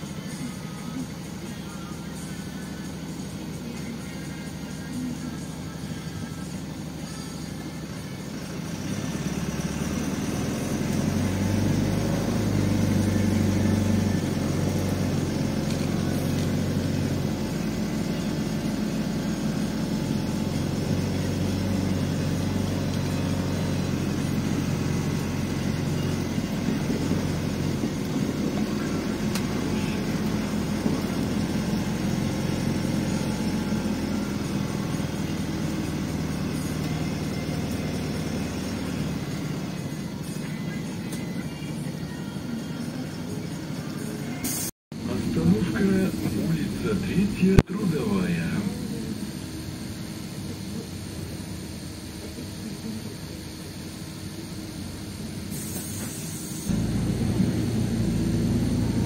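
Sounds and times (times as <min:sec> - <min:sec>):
bus engine accelerating: 0:00.0 - 0:59.0
road noise: 0:00.0 - 0:59.0.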